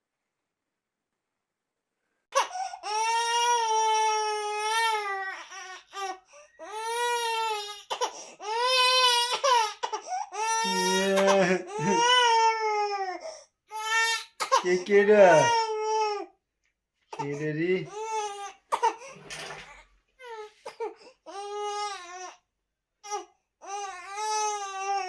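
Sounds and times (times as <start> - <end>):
baby crying: 2.3 - 16.3, 17.1 - 19.2, 20.2 - 22.4, 23.0 - 25.0.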